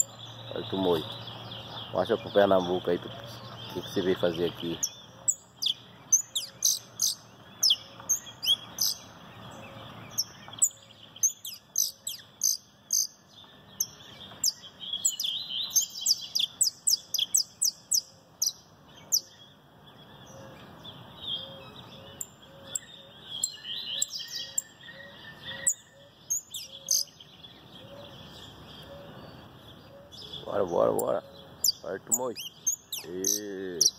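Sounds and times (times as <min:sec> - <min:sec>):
faint birds in background: 0:00.0 - 0:33.9
finch singing trills: 0:00.0 - 0:33.9.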